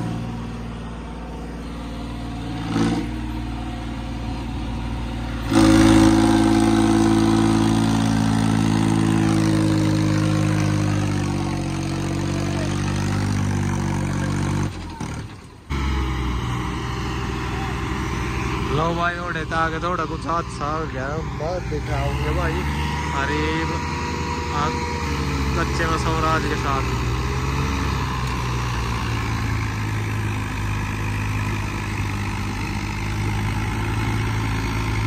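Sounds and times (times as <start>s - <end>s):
diesel tractor engine revving: 0.0s - 35.0s
second tractor engine running: 0.0s - 35.0s.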